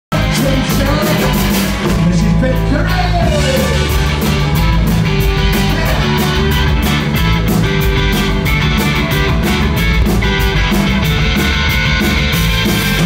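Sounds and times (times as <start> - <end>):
bass guitar: 0.1 - 13.0
drums with cymbal hits: 0.1 - 13.0
electric guitar: 0.1 - 13.0.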